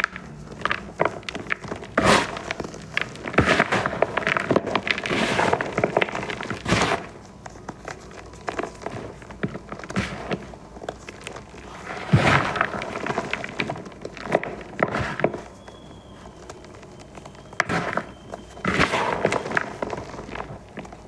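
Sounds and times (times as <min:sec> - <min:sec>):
chalk crunching by hand: 0:00.0 - 0:21.0.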